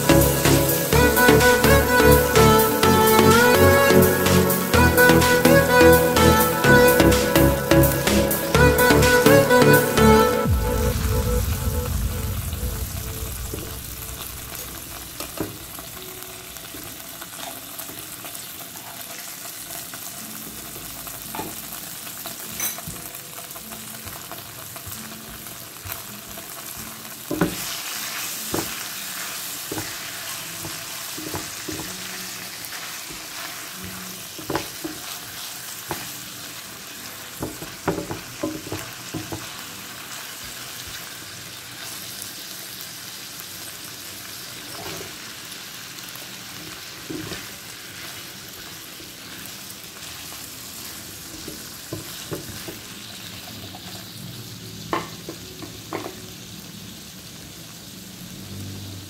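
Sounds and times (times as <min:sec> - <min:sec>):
liver sizzling in hot oil: 0:10.9 - 0:59.0.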